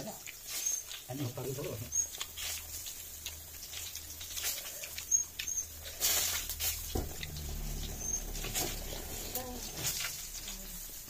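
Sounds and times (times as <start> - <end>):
people chewing with mouth smacks: 0.0 - 11.0.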